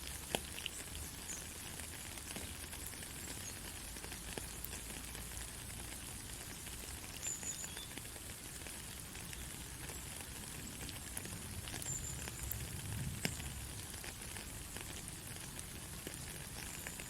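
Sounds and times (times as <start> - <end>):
light rain falling: 0.0 - 17.0
raindrops tapping: 0.0 - 17.0.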